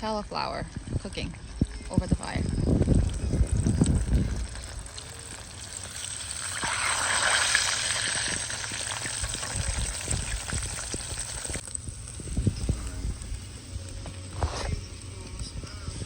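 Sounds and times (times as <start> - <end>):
food sizzling over a fire: 0.3 - 16.0
small pops and crackles: 0.7 - 15.5.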